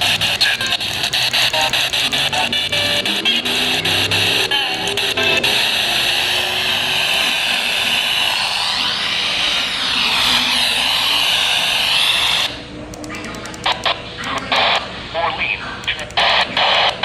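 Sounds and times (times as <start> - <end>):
radio static hiss: 0.0 - 12.6, 13.6 - 17.0.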